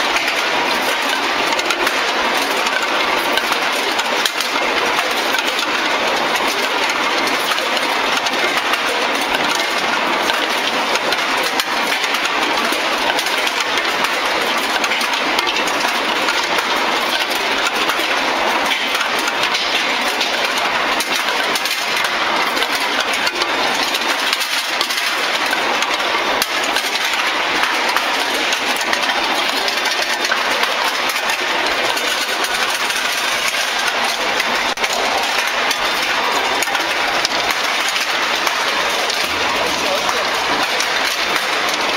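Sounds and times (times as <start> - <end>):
rolling mill mechanical din: 0.0 - 41.9.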